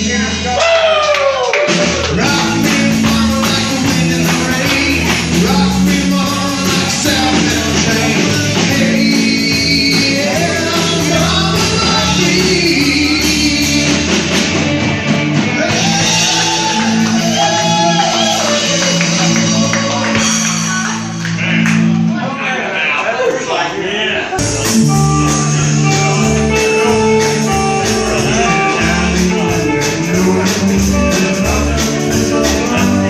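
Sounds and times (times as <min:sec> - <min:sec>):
country-rock song: 0:00.0 - 0:22.5, 0:24.3 - 0:33.0.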